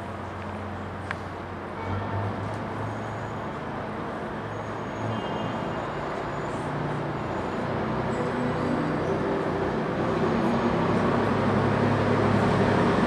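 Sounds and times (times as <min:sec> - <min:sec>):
diesel locomotive engine rumbling: 0:00.0 - 0:13.0.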